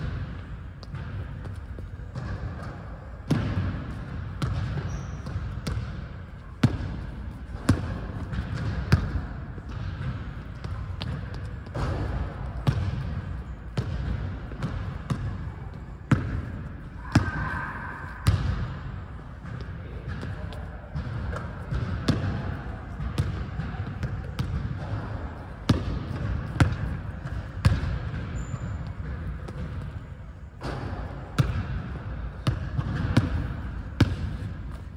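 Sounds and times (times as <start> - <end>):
basketball bouncing on gym floor: 0.0 - 34.9.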